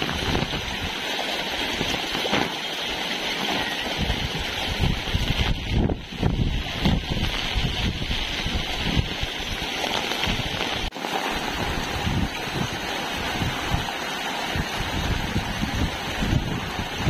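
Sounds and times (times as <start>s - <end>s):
wind buffeting microphone: 0.0s - 1.1s, 3.4s - 17.0s
floodwater rushing: 0.0s - 17.0s
rain hiss: 0.0s - 17.0s.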